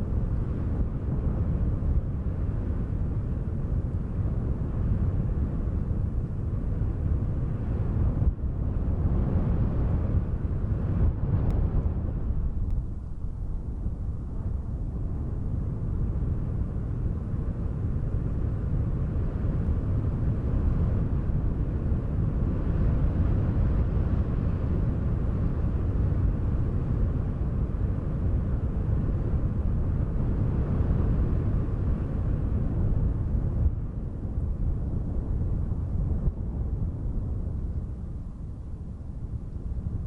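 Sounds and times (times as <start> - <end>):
deep wind noise: 0.0 - 40.0.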